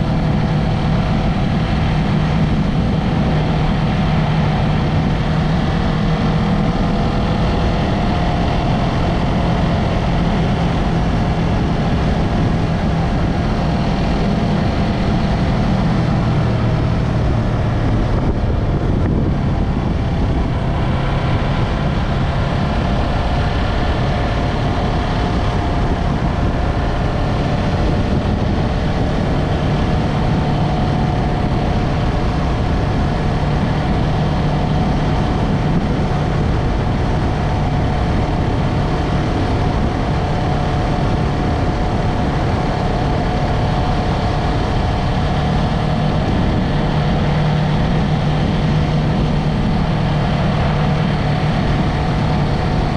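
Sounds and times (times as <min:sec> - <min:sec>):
motorcycle engine running: 0:00.0 - 0:52.9
wind rush: 0:00.0 - 0:52.9.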